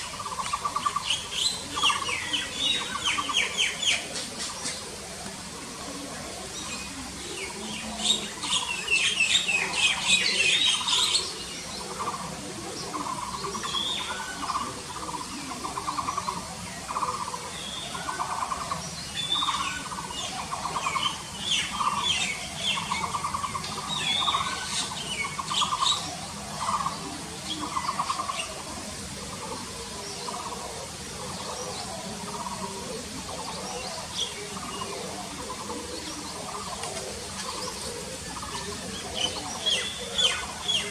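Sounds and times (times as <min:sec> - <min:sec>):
birds chirping high: 0:00.0 - 0:40.9.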